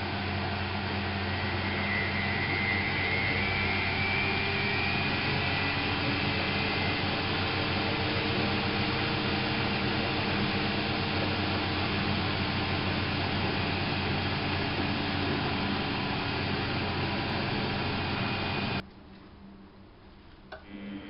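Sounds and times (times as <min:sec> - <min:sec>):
faint rising whine: 0:00.0 - 0:18.8
washing machine running: 0:00.0 - 0:18.8, 0:20.6 - 0:21.0.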